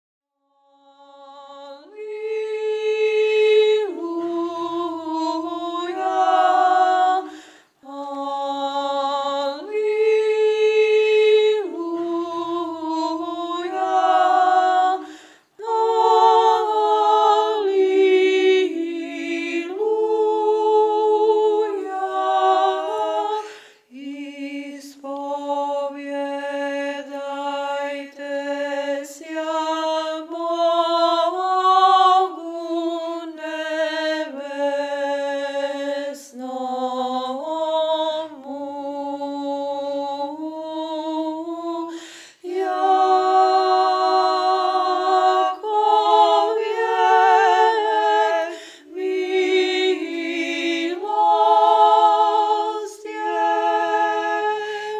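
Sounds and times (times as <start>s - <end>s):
unaccompanied choral chant: 0.6s - 54.9s.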